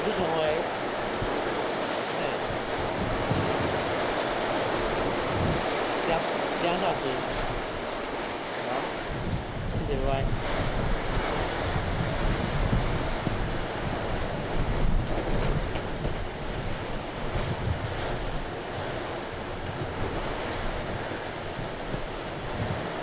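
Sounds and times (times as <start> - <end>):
strong gusting wind: 0.0 - 23.0
wind buffeting microphone: 0.0 - 23.0.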